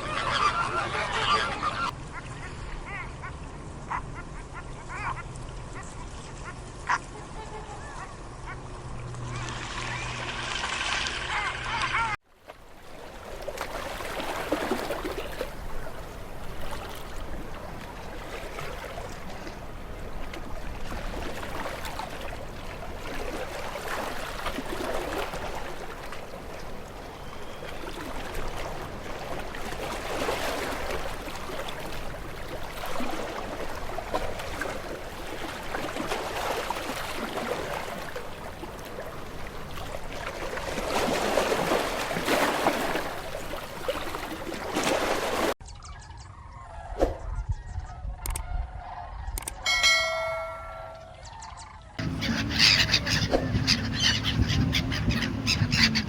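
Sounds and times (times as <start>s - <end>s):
stream trickling and gurgling: 0.0s - 47.3s, 49.4s - 56.0s.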